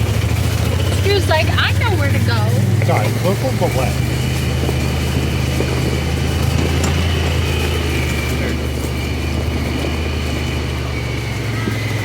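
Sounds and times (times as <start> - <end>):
buggy engine drone: 0.0 - 12.0.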